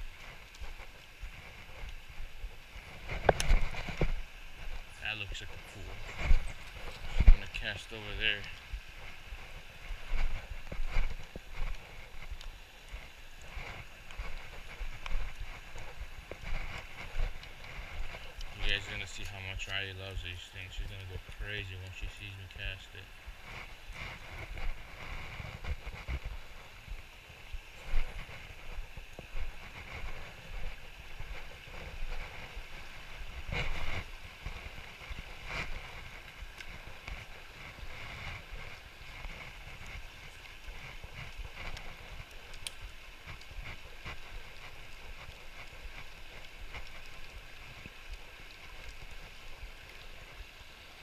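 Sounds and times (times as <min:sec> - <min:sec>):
river flowing: 0:00.0 - 0:51.0.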